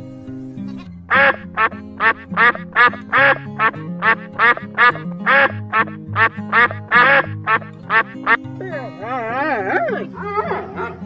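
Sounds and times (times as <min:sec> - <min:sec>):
background music: 0:00.0 - 0:11.0
ducks quacking: 0:00.7 - 0:09.6.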